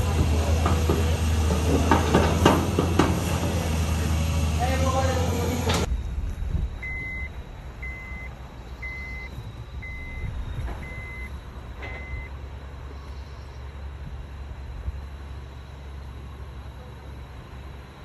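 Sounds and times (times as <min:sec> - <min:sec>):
continuous low rumble: 0:00.0 - 0:18.0.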